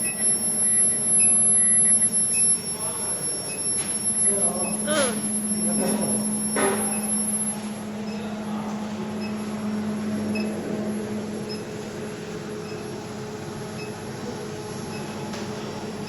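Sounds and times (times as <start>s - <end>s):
furnace low hum: 0.0s - 16.0s.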